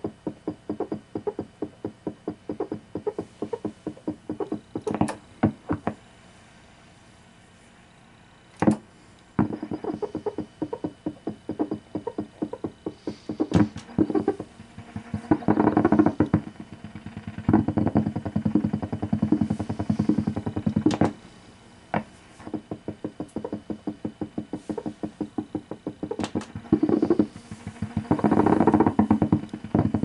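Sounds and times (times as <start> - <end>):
rapid pulsing radio buzz: 0.0 - 30.0.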